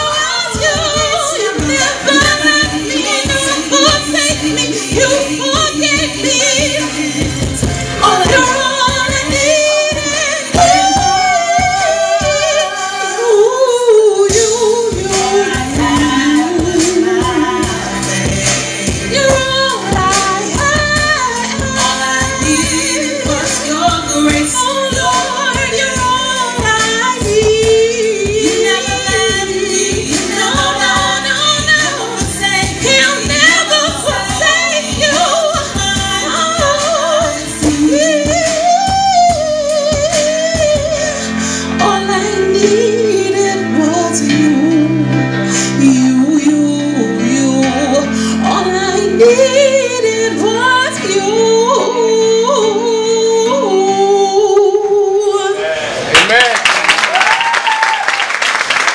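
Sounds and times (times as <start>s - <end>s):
woman singing gospel: 0.0s - 55.8s
backing music: 0.0s - 58.9s.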